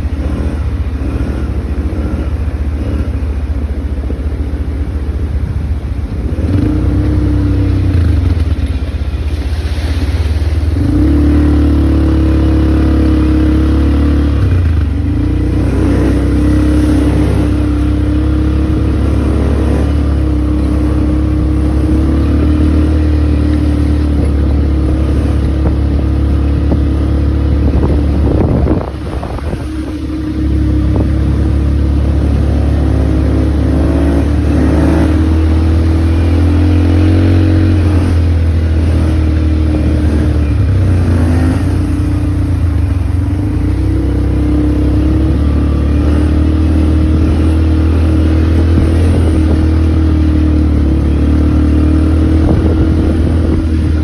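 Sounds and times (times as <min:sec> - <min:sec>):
all-terrain vehicle engine running: 0:00.0 - 0:54.0.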